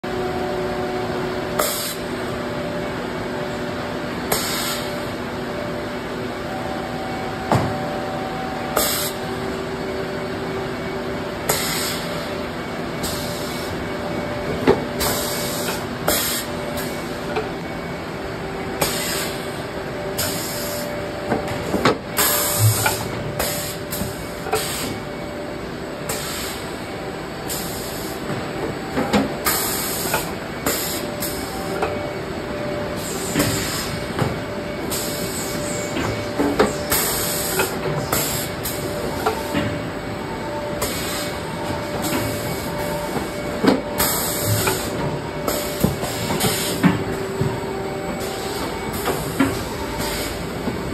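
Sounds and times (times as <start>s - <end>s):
steady machine drone: 0.0s - 50.9s.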